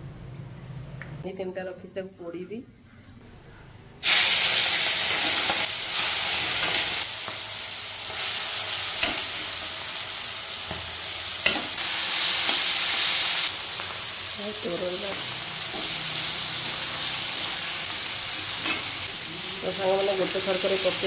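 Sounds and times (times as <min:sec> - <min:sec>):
prawns sizzling in hot oil: 0:04.0 - 0:21.0.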